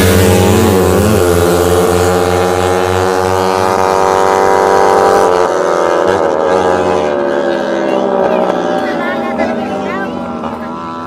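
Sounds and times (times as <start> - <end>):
motorcycle engines racing at high revs: 0.0 - 11.0.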